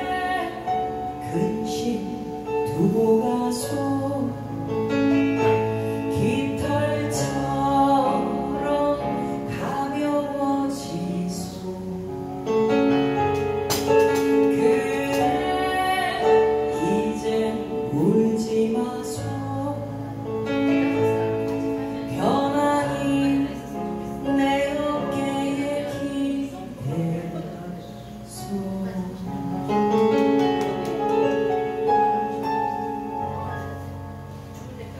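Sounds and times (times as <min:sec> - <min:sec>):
woman singing into a microphone: 0:00.0 - 0:12.7, 0:14.2 - 0:30.5
electric keyboard chords: 0:00.0 - 0:34.9.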